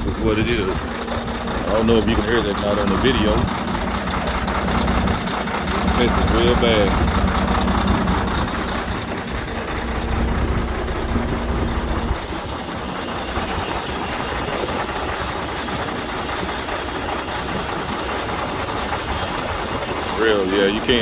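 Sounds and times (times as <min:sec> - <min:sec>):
diesel truck engine idling roughly: 0:00.0 - 0:21.0.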